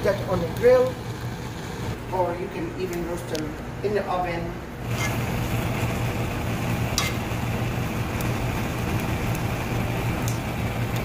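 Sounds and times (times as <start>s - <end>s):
gas burner flame rushing: 0.0s - 4.0s, 4.7s - 11.0s.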